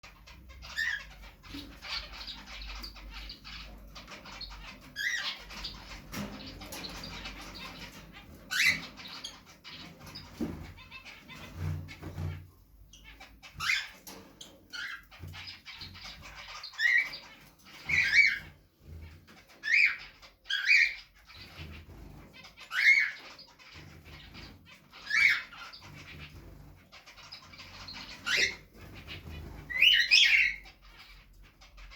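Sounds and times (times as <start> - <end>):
finches calling: 0.0 - 31.9.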